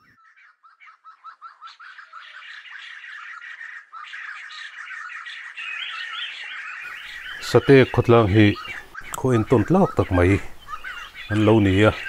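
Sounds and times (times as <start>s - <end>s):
pheasants chirping: 0.0s - 12.0s.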